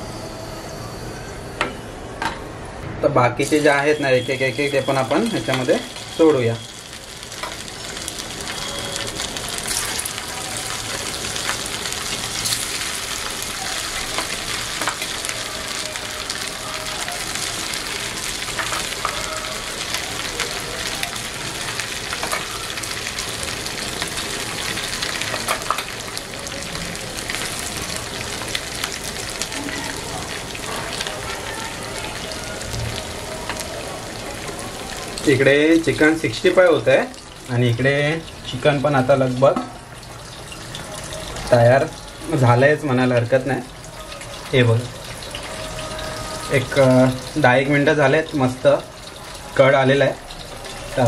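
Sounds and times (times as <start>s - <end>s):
chicken deep-frying in oil: 3.4s - 51.0s.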